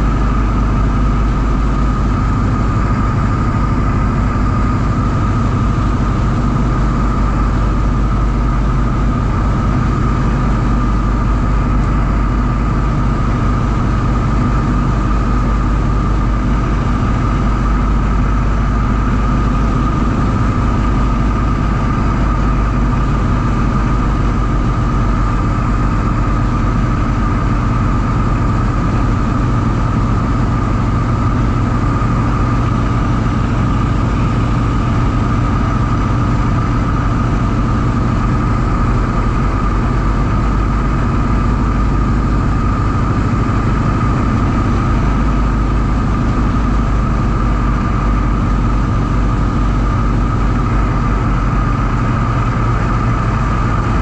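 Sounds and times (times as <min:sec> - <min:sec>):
propeller plane engines droning: 0:00.0 - 0:54.0.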